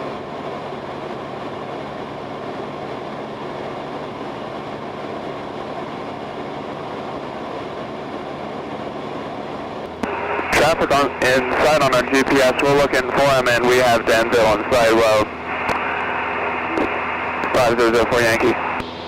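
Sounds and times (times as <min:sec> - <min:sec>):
small plane cabin drone: 0:00.0 - 0:19.0.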